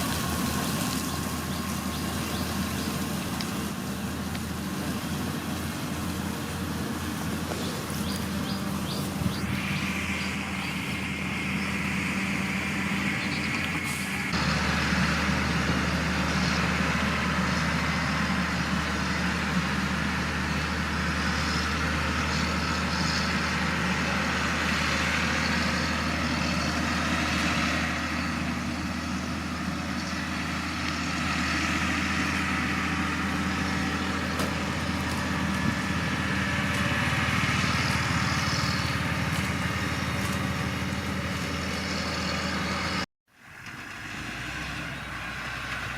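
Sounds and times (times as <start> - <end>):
heavy diesel engine droning: 0.0 - 45.9.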